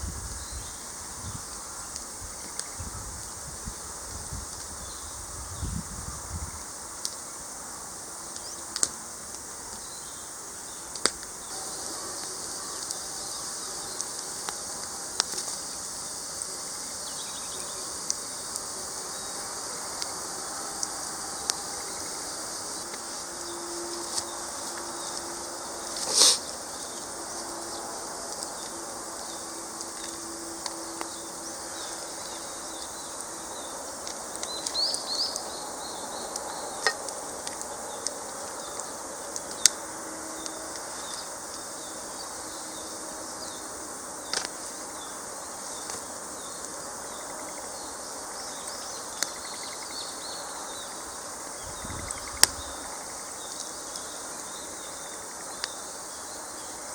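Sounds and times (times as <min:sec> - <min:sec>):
high insect drone: 0:00.0 - 0:56.9
campfire crackling and popping: 0:00.7 - 0:05.0, 0:06.6 - 0:49.8, 0:50.8 - 0:56.9.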